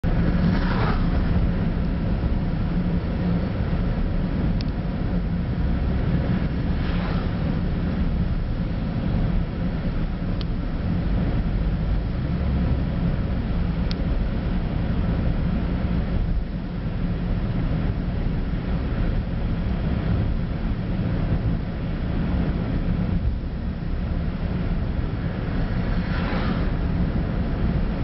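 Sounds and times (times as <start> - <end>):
car engine and tyre hum: 0.0 - 28.0
wind noise: 0.0 - 28.0.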